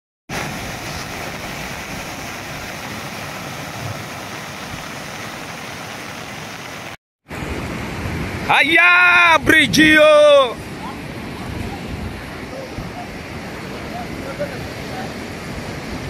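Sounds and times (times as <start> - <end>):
river rushing: 0.3 - 16.0.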